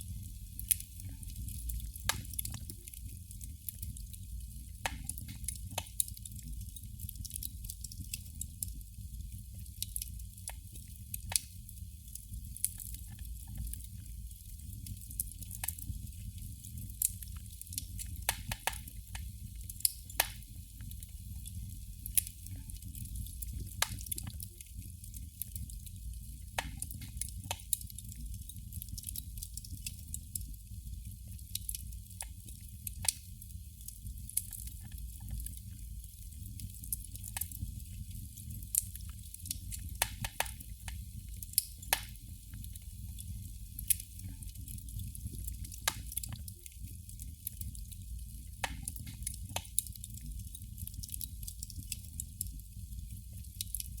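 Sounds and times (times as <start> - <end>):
candle flame crackling: 0.0 - 54.0.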